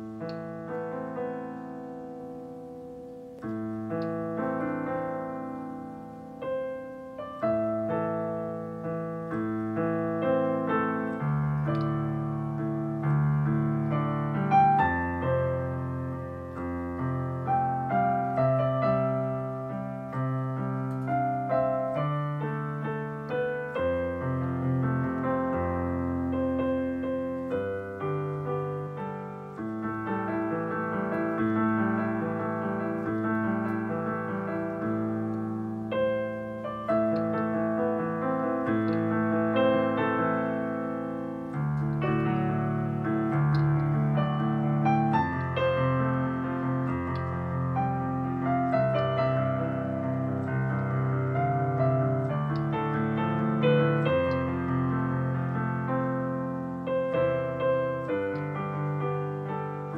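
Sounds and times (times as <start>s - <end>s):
digital piano piece: 0.0s - 59.9s.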